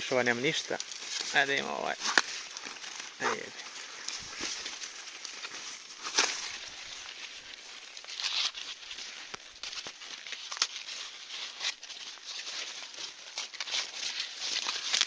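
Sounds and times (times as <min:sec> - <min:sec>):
maize leaves rustling: 0:00.0 - 0:15.0
sharp crackles: 0:00.0 - 0:15.0.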